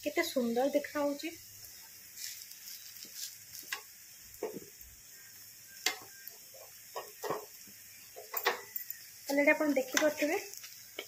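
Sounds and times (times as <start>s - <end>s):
faint sizzle of frying: 0.0s - 11.0s.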